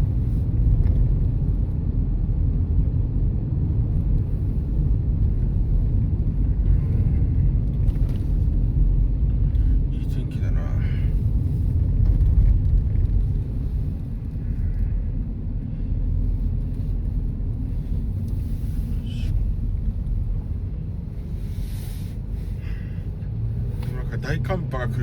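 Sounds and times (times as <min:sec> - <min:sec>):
car driving from inside cabin: 0:00.0 - 0:25.0.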